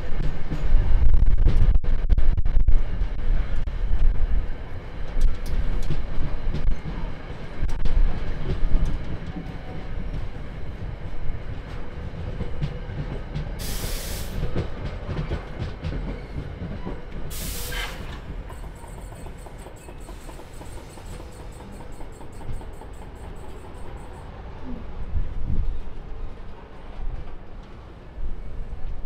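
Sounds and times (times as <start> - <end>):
train coaches rumbling on rails: 0.0 - 29.0.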